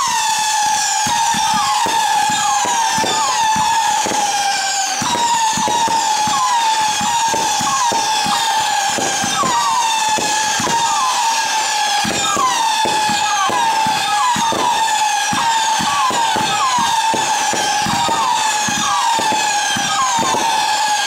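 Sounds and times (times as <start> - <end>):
firework pops and crackles: 0.0 - 21.0
firework whistles: 0.0 - 21.0.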